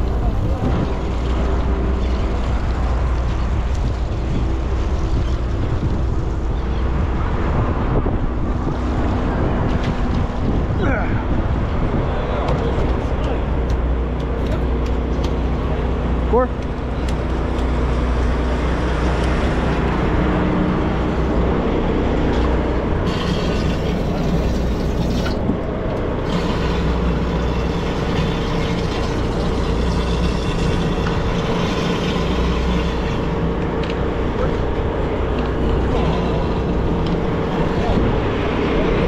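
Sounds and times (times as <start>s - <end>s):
vehicle engine drone: 0.0s - 39.0s.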